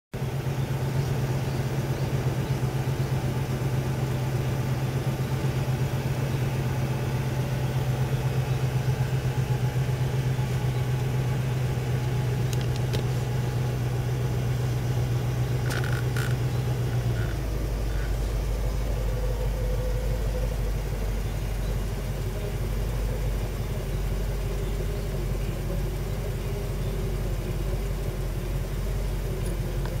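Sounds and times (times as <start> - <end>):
car engine idling: 0.1 - 30.0.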